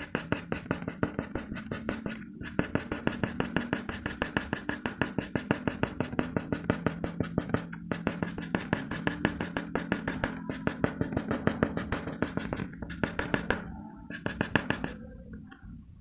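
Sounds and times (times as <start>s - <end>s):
pencil scratching on paper: 0.0s - 15.5s.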